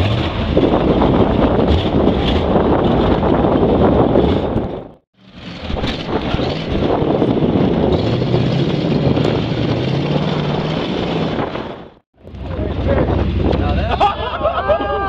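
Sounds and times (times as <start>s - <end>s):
pickup engine revving: 0.0s - 14.3s
tyres churning mud: 0.0s - 15.0s.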